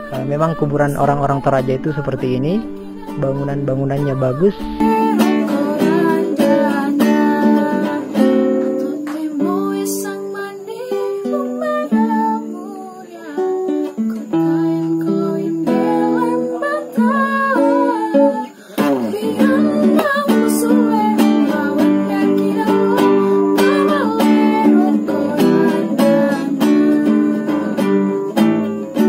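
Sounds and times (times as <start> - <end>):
plucked string music: 0.0 - 29.0.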